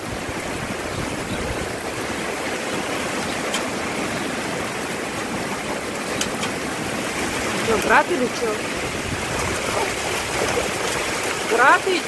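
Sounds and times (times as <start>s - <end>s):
heavy rain rushing: 0.0s - 12.0s.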